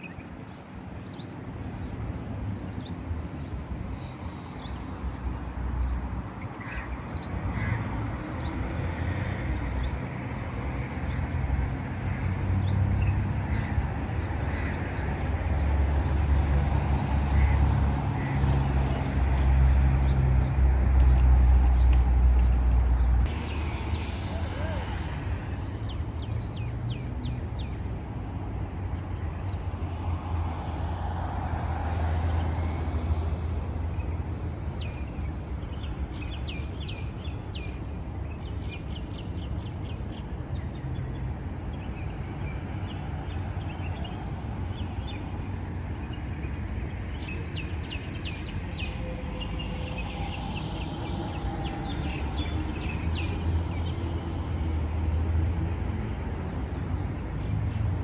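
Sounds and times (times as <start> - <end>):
street traffic rumble: 0.2 - 58.0.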